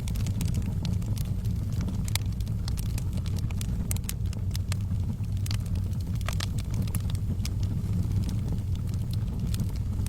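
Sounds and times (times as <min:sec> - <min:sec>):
fire crackling and popping: 0:00.0 - 0:10.0
low rumble of flames: 0:00.0 - 0:10.0.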